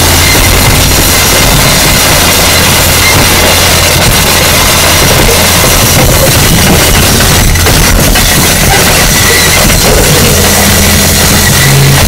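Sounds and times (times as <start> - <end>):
distorted noise music: 0.0 - 12.0
low drone: 0.0 - 12.0.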